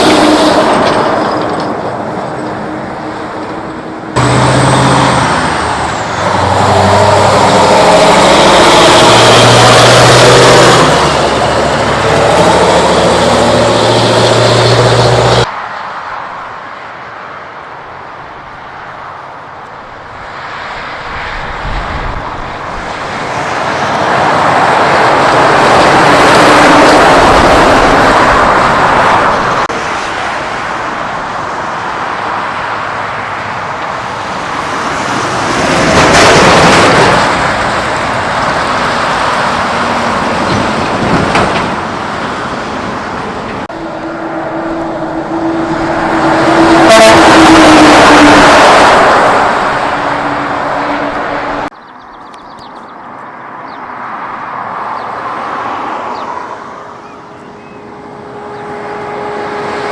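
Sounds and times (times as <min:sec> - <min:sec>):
humming truck engine: 0:00.0 - 0:15.5, 0:19.7 - 0:52.7, 0:56.1 - 0:59.9
trucks passing: 0:00.0 - 0:59.9.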